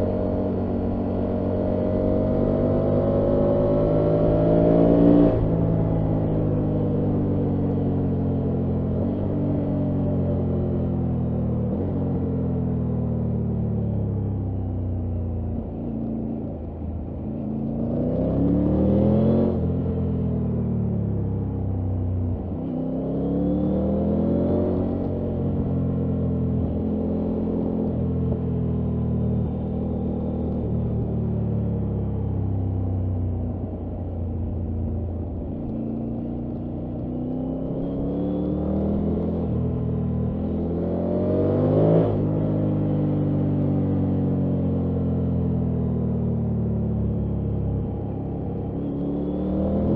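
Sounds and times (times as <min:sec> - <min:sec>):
motorcycle engine revving: 0:00.0 - 0:12.6, 0:22.4 - 0:49.9.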